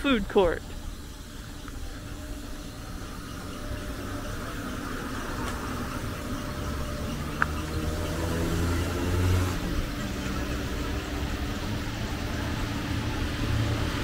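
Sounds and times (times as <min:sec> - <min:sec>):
vehicle engine passing: 0:00.7 - 0:14.0.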